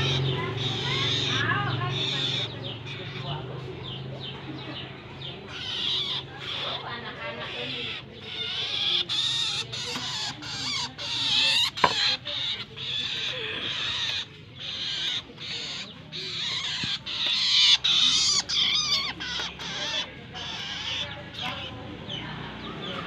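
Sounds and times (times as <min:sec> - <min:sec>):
bird chattering and singing: 0:00.0 - 0:23.0.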